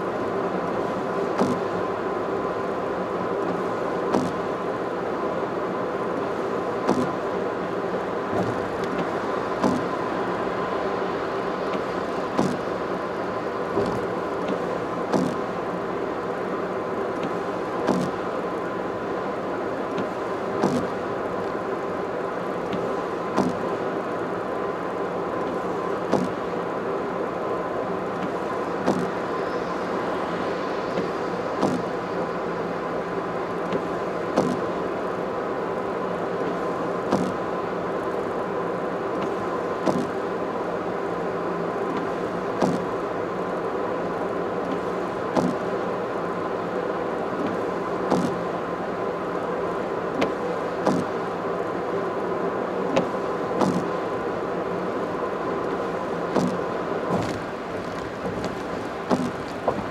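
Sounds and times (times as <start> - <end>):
road and engine drone: 0.0 - 59.9.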